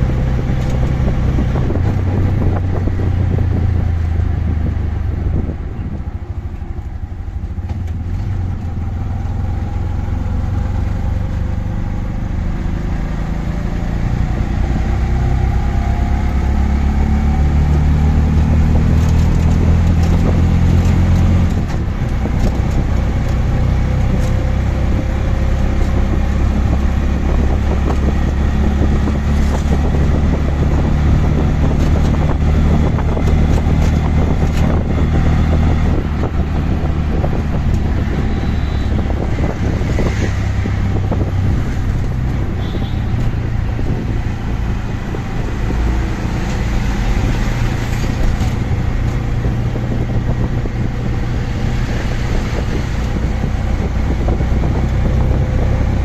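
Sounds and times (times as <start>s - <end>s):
auto-rickshaw engine running: 0.0s - 56.0s
road and traffic noise: 0.0s - 56.0s.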